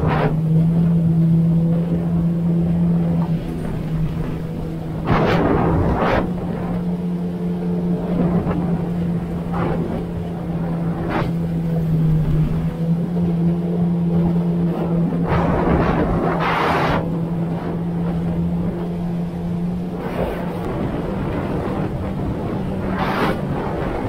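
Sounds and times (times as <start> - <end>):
personal watercraft engine running: 0.0 - 24.0
water rushing: 0.0 - 24.0.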